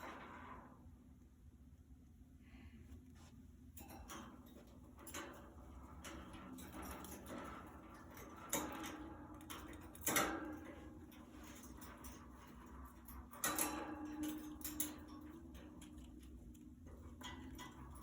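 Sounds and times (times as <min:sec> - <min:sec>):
faint steady hum: 0:00.0 - 0:18.0
light clicks and taps in cage: 0:02.9 - 0:18.0.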